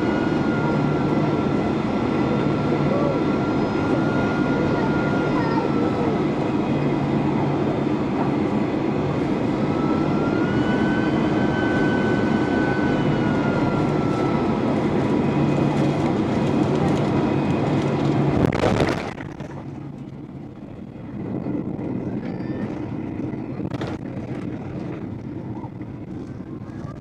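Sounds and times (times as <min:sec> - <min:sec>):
vehicle running hum and whine: 0:00.0 - 0:27.0.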